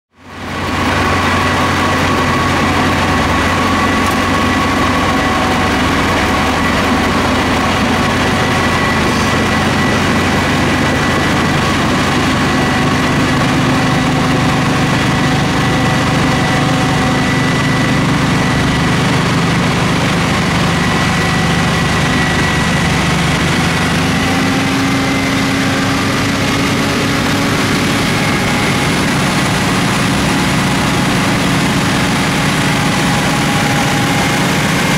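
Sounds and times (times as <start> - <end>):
heavy engine drone: 0.1 - 34.9
snow blower whine: 0.2 - 34.9.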